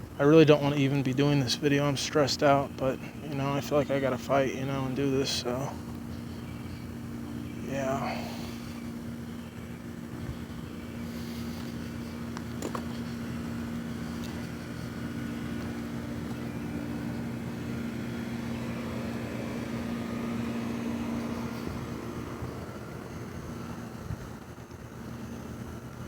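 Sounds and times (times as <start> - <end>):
low mechanical hum of engine: 0.0 - 26.0.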